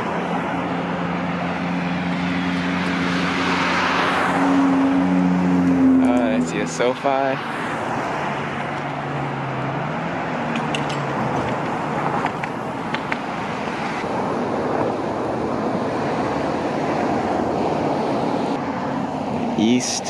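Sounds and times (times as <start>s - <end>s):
passing cars traffic noise: 0.0s - 20.0s.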